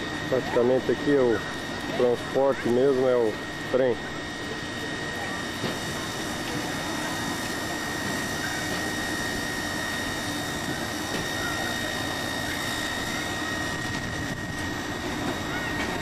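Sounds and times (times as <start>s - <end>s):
diesel train engine running: 0.0s - 16.0s
high steady whine: 0.0s - 16.0s.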